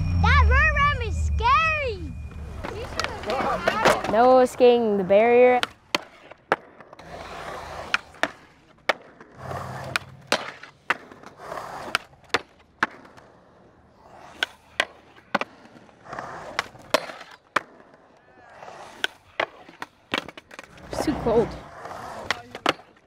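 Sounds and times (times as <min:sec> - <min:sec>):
skateboard wheels rolling on concrete: 0:00.0 - 0:23.0
skateboard sliding on concrete: 0:02.4 - 0:23.0
skateboard clacks: 0:02.6 - 0:23.0.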